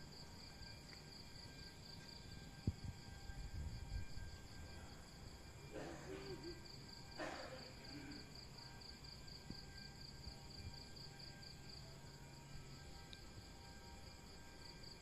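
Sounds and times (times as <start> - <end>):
crickets chirping: 0.0 - 15.0
low hum: 0.0 - 15.0.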